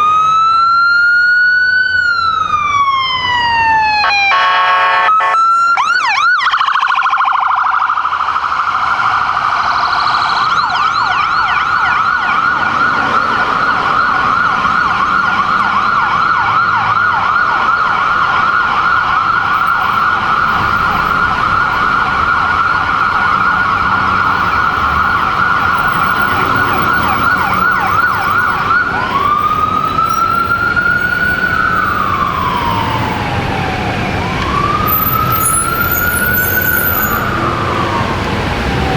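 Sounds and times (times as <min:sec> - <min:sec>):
electronic siren: 0:00.0 - 0:38.9.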